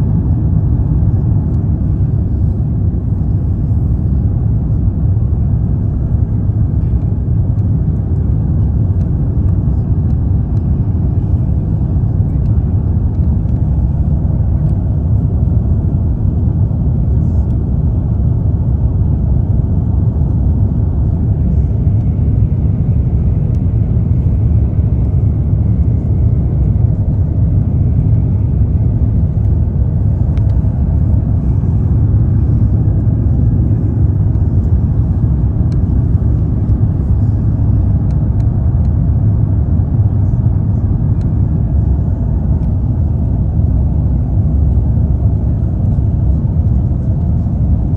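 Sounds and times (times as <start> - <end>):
jet engine rumble: 0.0 - 47.9.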